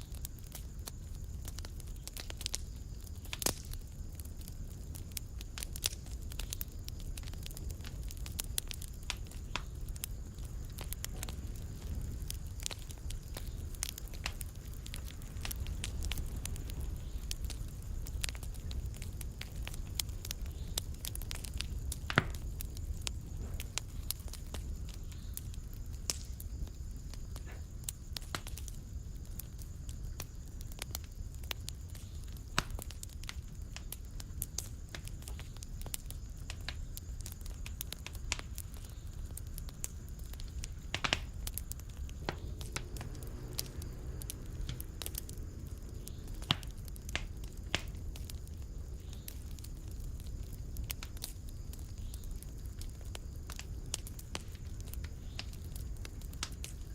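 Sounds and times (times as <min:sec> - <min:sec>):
fireplace fire crackling: 0:00.0 - 0:56.9.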